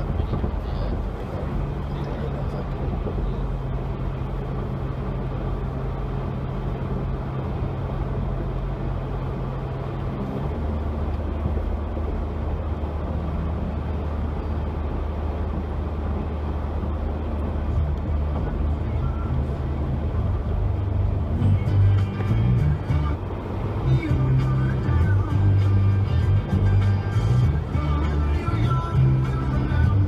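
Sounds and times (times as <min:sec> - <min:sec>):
road noise: 0:00.0 - 0:30.0
vehicle engine: 0:00.0 - 0:30.0.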